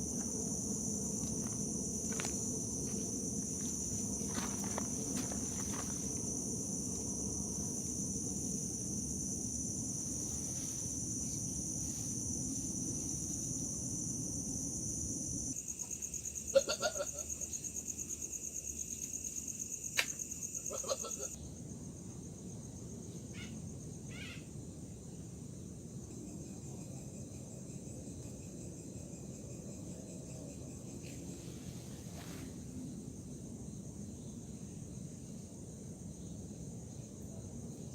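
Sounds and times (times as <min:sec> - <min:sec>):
crickets and insects chirring: 0:00.0 - 0:37.9.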